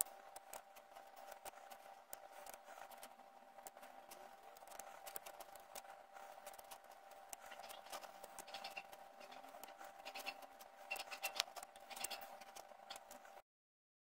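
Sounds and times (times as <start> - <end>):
faint hum: 0.0 - 13.4.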